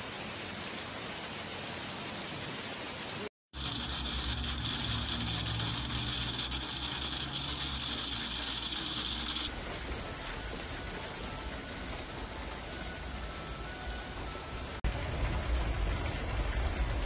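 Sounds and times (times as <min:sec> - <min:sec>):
hail and rain falling outdoors: 0:00.8 - 0:17.0.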